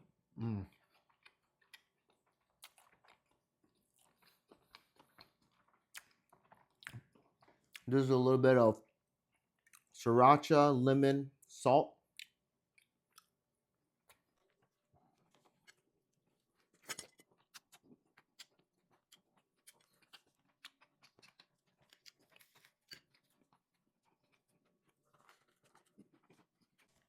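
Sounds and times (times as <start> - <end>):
person chewing food: 0.4 - 7.9, 8.8 - 10.0, 12.1 - 27.0.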